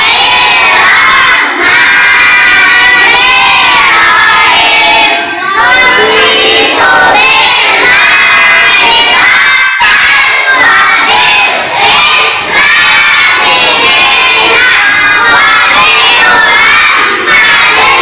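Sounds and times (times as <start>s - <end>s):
children reciting in unison: 0.0s - 18.0s.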